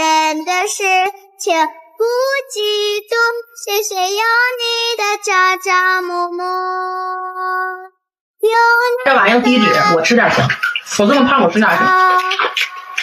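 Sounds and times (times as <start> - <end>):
high child-like voice singing: 0.0 - 10.4, 11.2 - 12.8.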